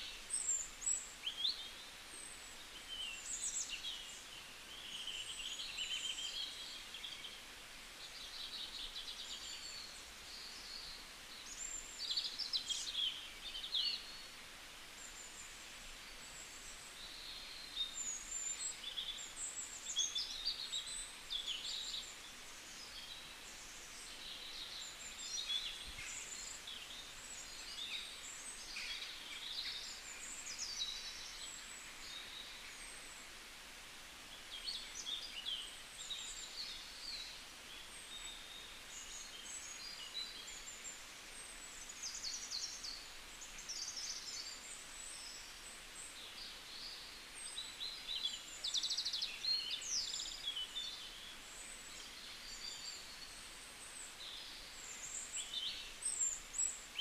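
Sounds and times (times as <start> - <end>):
faint hiss: 0.0 - 57.0.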